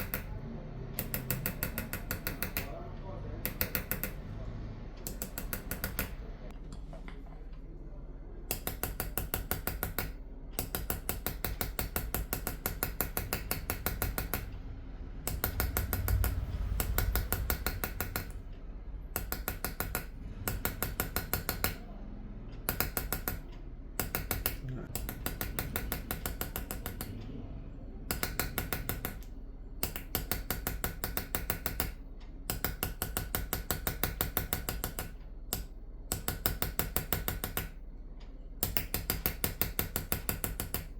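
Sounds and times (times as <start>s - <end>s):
hammer tapping on chisel: 0.0s - 0.4s, 1.0s - 2.8s, 3.4s - 4.2s, 5.0s - 7.4s, 8.5s - 14.6s, 15.3s - 18.5s, 19.2s - 27.3s, 28.1s - 37.8s, 38.6s - 40.9s
low steady hum: 0.0s - 40.9s.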